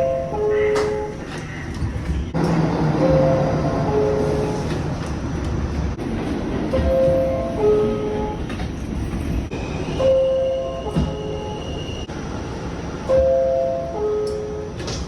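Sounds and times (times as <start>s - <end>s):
rail car background noise: 0.0s - 15.0s.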